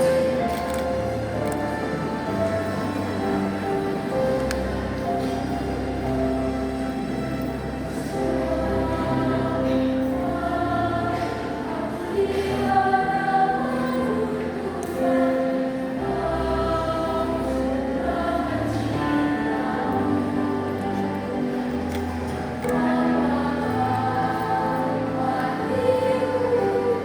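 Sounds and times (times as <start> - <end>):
mixed choir singing: 0.0 - 27.0.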